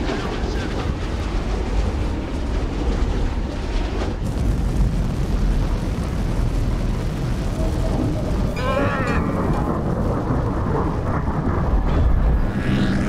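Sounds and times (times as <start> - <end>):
deep engine rumble: 0.0 - 13.0.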